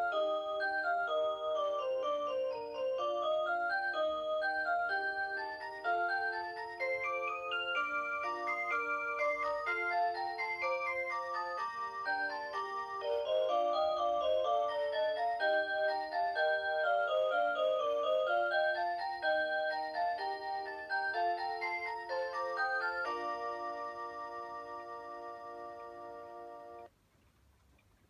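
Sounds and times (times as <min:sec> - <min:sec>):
alarm clock electronic melody: 0:00.0 - 0:26.9.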